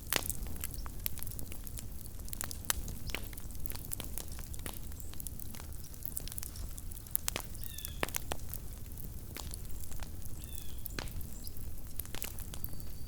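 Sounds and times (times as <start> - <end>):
campfire crackling and popping: 0.0 - 13.0
fire rumbling: 0.0 - 13.0.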